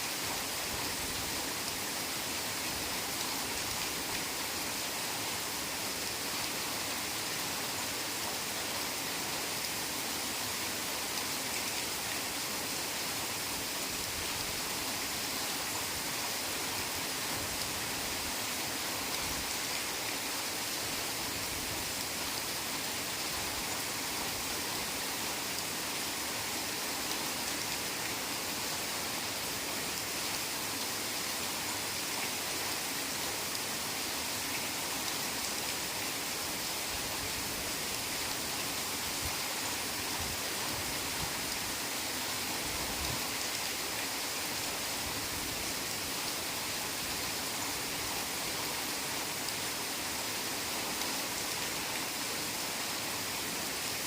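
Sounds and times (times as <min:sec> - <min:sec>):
heavy rain on foliage: 0:00.0 - 0:54.0.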